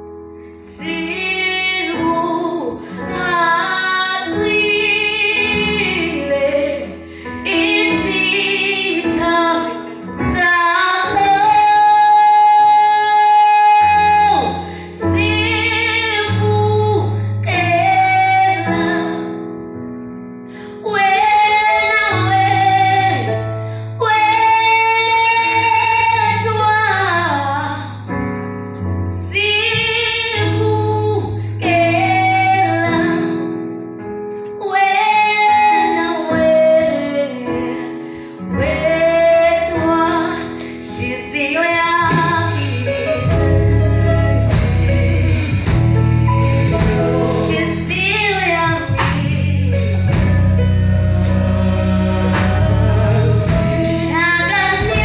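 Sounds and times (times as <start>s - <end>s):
instrumental accompaniment with bass: 0.0s - 55.0s
woman singing into a microphone: 0.6s - 19.5s, 20.7s - 28.1s, 29.1s - 33.6s, 34.5s - 55.0s.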